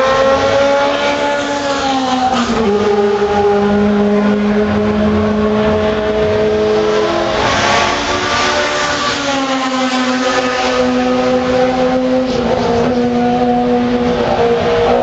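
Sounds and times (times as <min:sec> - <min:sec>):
race car engine rising in pitch: 0:00.0 - 0:15.0
race car engine steady note: 0:00.0 - 0:15.0.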